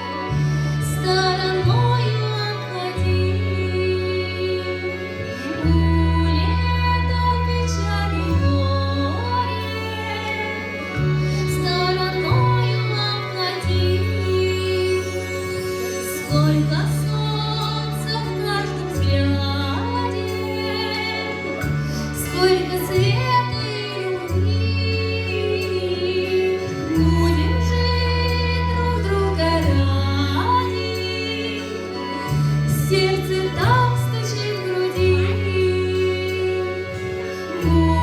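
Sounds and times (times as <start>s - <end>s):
instrumental accompaniment: 0.0s - 38.0s
long held bass notes: 0.0s - 38.0s
women singing: 0.0s - 38.0s.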